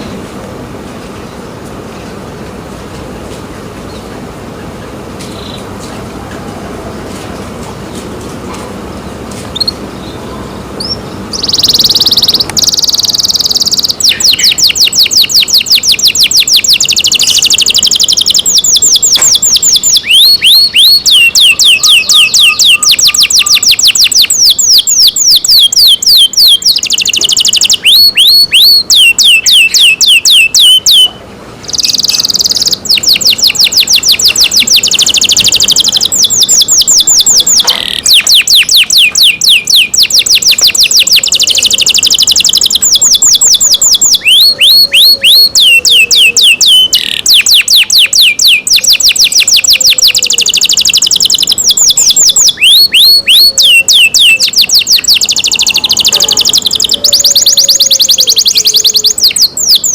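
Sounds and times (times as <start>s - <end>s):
canary singing: 0.0s - 0.2s, 3.2s - 7.1s, 8.9s - 59.9s.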